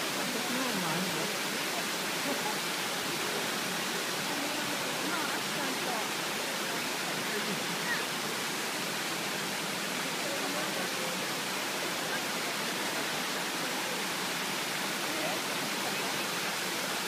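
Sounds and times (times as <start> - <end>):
faint voices: 0.0 - 17.0
waterfall rushing: 0.0 - 17.0.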